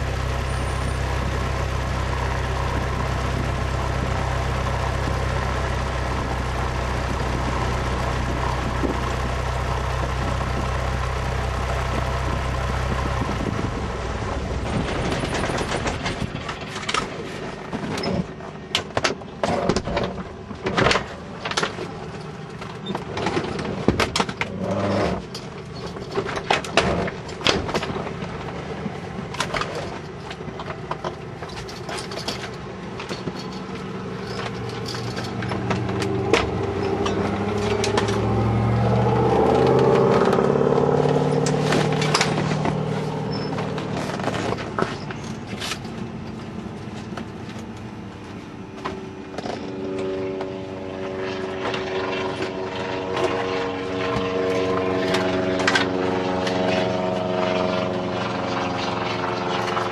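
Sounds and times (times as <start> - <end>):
propeller engine in a cabin: 0.0 - 59.9.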